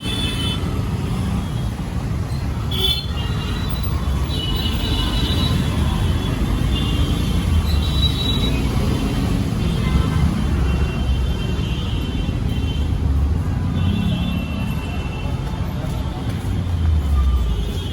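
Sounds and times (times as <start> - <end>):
road traffic rumble: 0.0 - 17.9.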